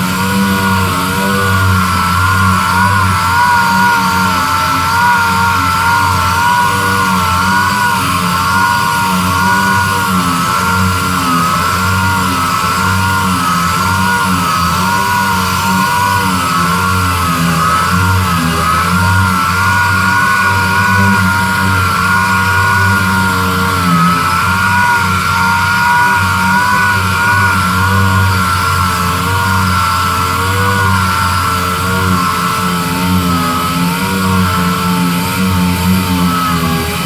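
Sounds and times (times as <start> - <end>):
power sander whining: 0.0 - 37.0.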